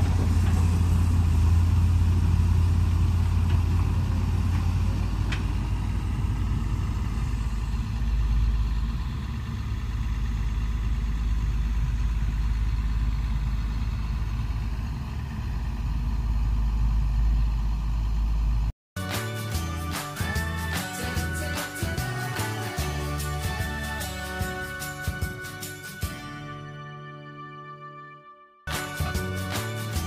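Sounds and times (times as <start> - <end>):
excavator diesel engine running: 0.0 - 26.7, 28.7 - 30.0.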